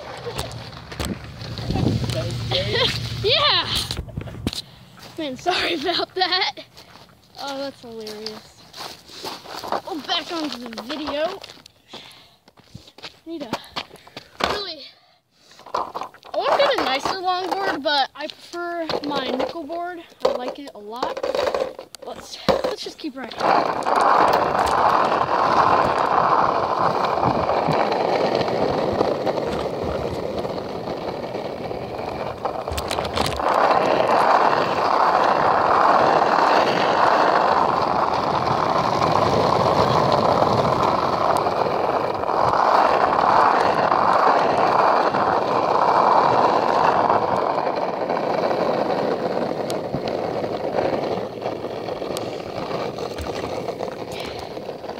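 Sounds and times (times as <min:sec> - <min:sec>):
longboard clatter: 0:00.0 - 0:11.6, 0:15.5 - 0:54.9
longboard wheels rolling on asphalt: 0:00.0 - 0:54.9.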